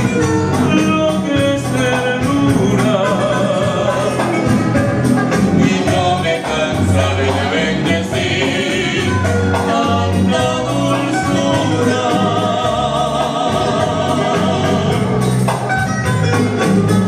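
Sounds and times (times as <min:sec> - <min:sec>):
instrumental accompaniment: 0:00.0 - 0:17.0
man and woman singing: 0:00.5 - 0:04.7, 0:05.5 - 0:15.2.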